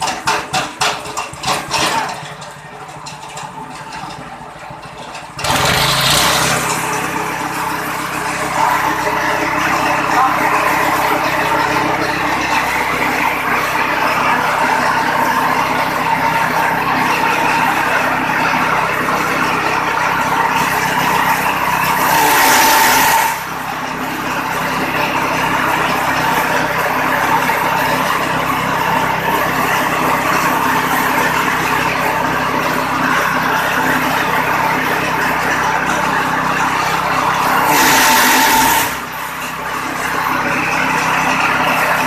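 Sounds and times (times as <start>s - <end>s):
straw chopper motor drone: 0.0s - 42.0s.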